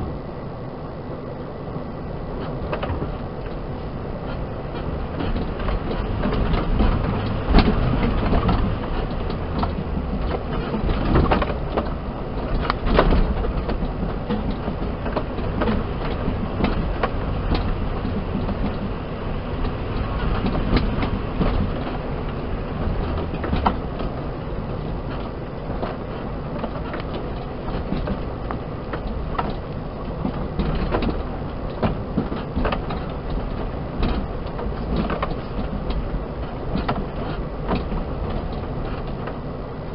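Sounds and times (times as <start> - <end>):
engine and tyres drone: 0.0 - 39.9.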